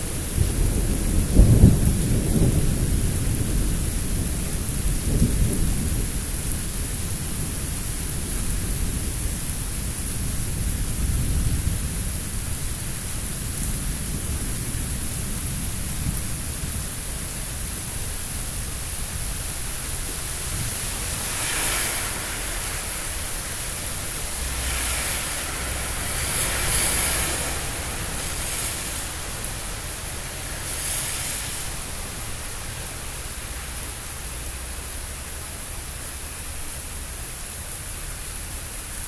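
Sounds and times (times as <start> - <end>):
thunder rumble: 0.0 - 34.6
rain hiss: 0.0 - 39.0.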